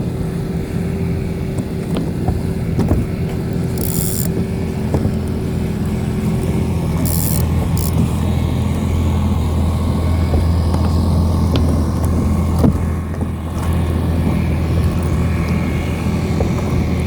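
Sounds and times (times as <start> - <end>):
boat motor droning: 0.0 - 17.0.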